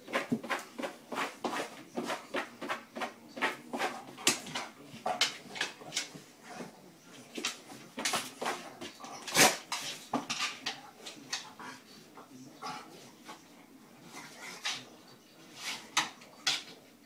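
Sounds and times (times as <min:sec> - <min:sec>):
dog paws scratching doormat: 0:00.0 - 0:11.8, 0:14.0 - 0:16.9.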